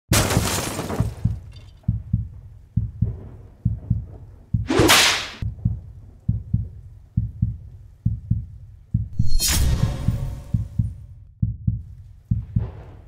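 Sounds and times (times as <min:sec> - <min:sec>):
heartbeat thumps: 0:01.0 - 0:09.2, 0:09.9 - 0:13.0.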